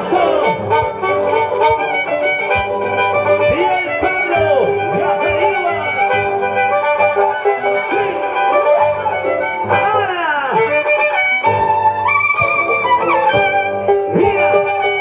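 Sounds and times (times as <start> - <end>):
violin band music: 0.0 - 15.0.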